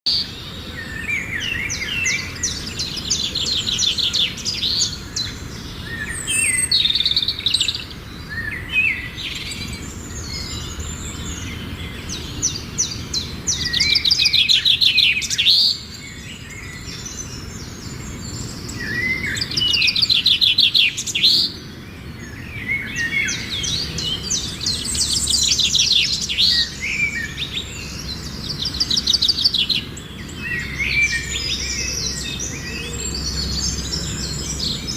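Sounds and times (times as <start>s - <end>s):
birds singing trills and chirps: 0.1s - 34.9s.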